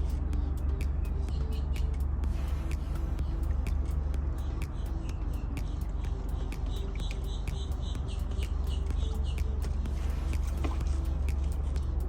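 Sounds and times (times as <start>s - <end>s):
outboard motor idling: 0.0s - 12.0s
regular ticking: 0.0s - 12.0s.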